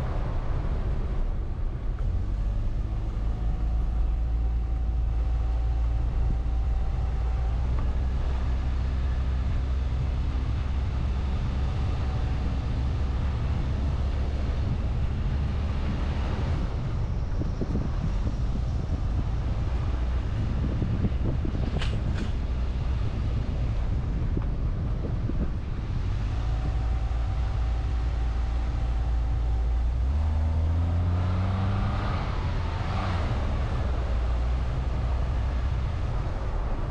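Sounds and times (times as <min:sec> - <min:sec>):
car engine hum: 0:00.0 - 0:36.9
tyre and road noise: 0:00.0 - 0:36.9.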